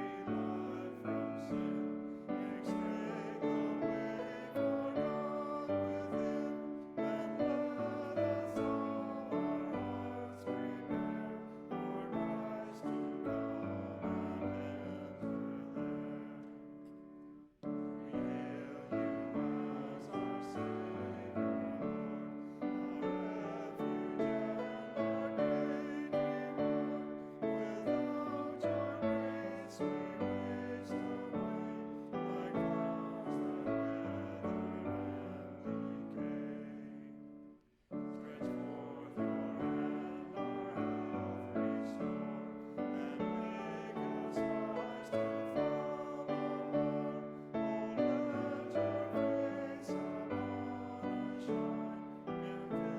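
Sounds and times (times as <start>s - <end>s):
piano playing slow chords: 0.0s - 52.9s.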